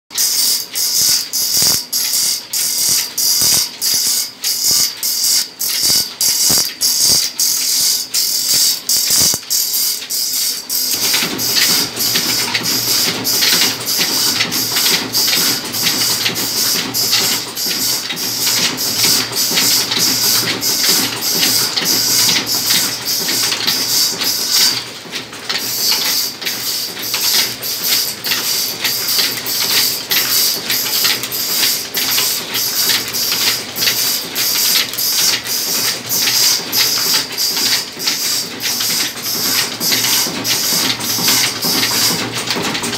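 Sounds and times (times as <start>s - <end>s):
line shafts and pulleys: 0.1s - 42.9s.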